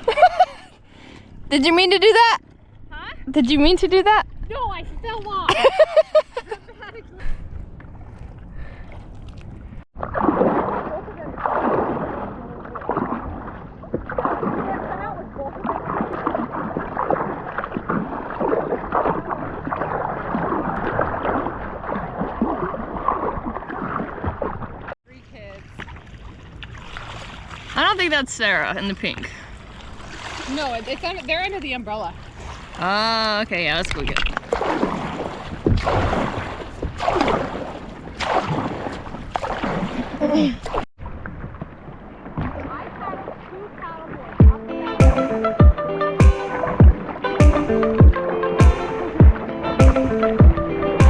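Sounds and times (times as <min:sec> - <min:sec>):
water sloshing and splashing: 0:04.0 - 0:45.5, 0:46.3 - 0:51.0.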